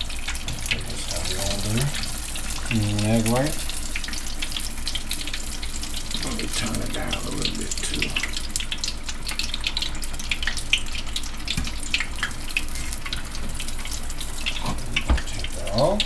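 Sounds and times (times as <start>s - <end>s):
oil sizzling while deep-frying: 0.0s - 16.0s.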